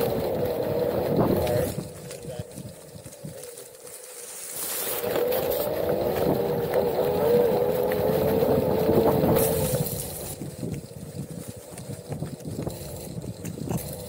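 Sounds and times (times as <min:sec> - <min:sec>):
electric motor whining: 0:00.0 - 0:14.0
tyre rumbling on rough trail: 0:00.0 - 0:14.0.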